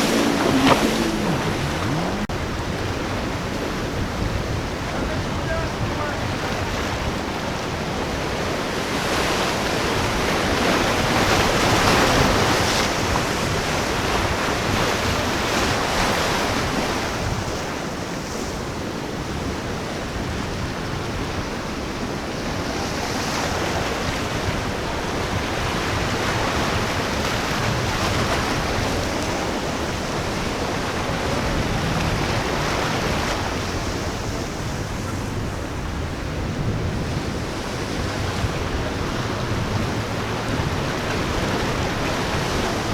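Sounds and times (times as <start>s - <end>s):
ocean waves breaking: 0.0s - 42.9s
wind blowing on microphone: 0.0s - 42.9s.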